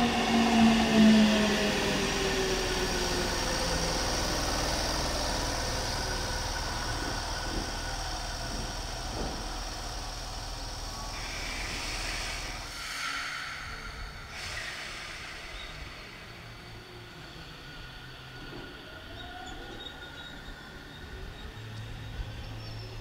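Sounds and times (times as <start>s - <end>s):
electric train hum and rumble: 0.0s - 23.0s.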